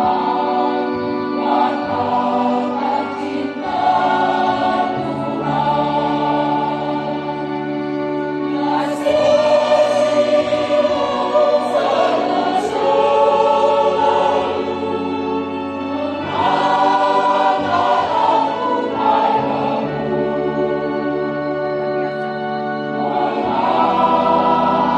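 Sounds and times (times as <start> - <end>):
choir singing a hymn: 0.0 - 24.9.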